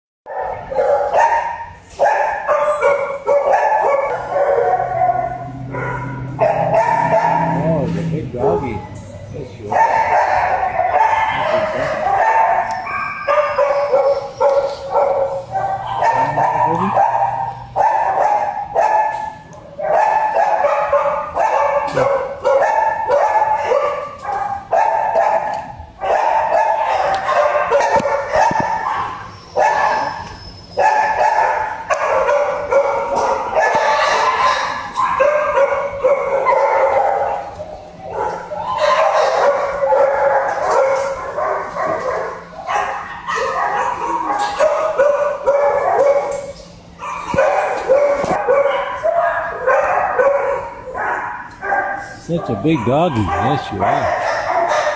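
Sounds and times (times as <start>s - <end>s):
dogs barking and yipping: 0.3s - 54.9s.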